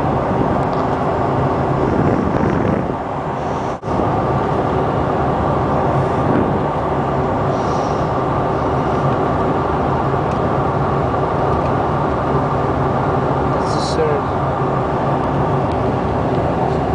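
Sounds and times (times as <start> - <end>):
jet engines and airflow rushing: 0.0 - 16.9.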